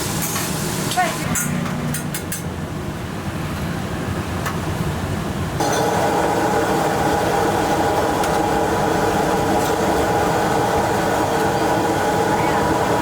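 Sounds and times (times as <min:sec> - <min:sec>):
fan motor humming: 0:00.9 - 0:13.0.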